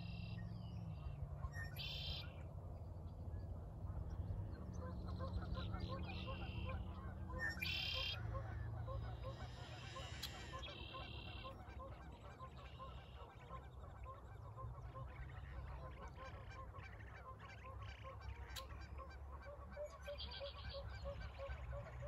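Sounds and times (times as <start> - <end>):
geese honking: 3.9 - 22.0.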